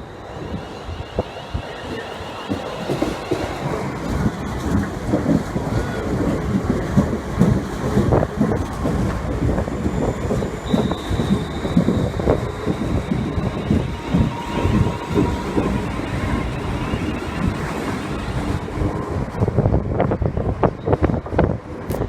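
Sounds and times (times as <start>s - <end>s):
train rumbling: 0.0s - 22.0s
wind buffeting microphone: 0.0s - 22.0s.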